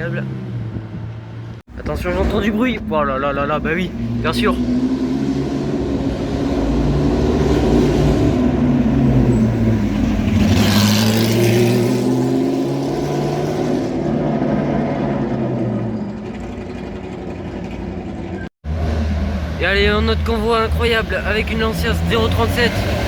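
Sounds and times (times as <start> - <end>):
sports cars driving past revving: 3.4 - 23.0.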